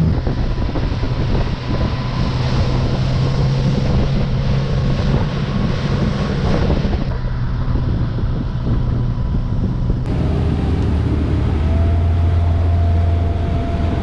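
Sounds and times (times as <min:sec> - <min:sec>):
speedboat engine drone: 0:00.0 - 0:14.0
water rushing past hull: 0:00.0 - 0:14.0
wind buffeting microphone: 0:00.0 - 0:14.0.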